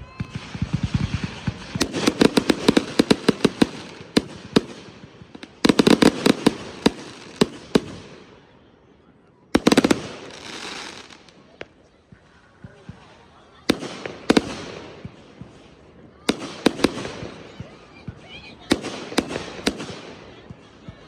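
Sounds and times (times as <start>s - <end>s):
fireworks bangs and cracks: 0.0s - 8.6s, 9.5s - 21.0s.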